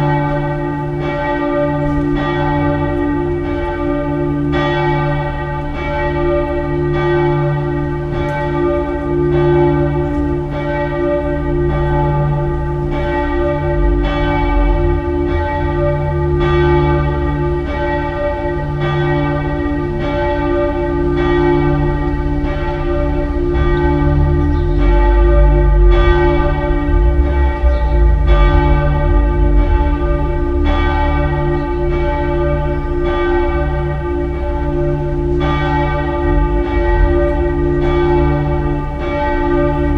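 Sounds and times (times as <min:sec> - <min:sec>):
church bells ringing in peal: 0:00.0 - 0:39.9
deep bells humming: 0:00.0 - 0:39.9.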